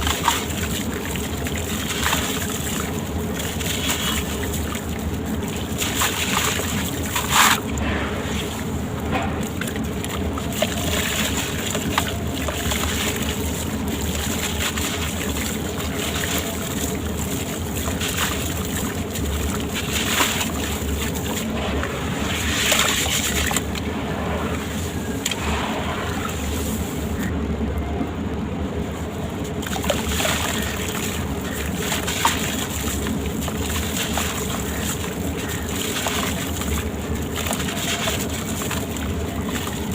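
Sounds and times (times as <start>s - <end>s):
water sloshing and splashing: 0.0s - 27.6s, 28.5s - 39.9s
steady low hum: 0.0s - 39.9s.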